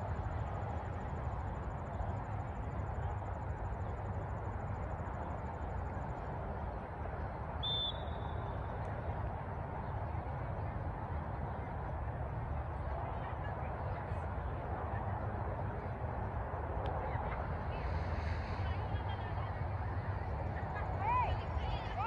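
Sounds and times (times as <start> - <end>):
low outdoor background noise: 0.0 - 22.0.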